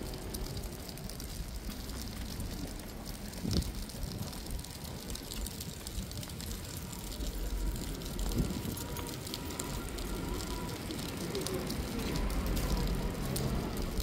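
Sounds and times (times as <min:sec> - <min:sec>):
light ticks of rain: 0:00.0 - 0:14.0
wind rumbling on microphone: 0:00.0 - 0:14.0.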